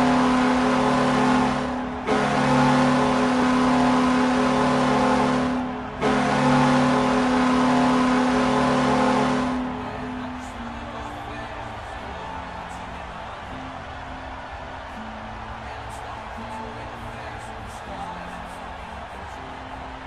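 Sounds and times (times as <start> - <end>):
low goal horn blasts: 0.0 - 20.0.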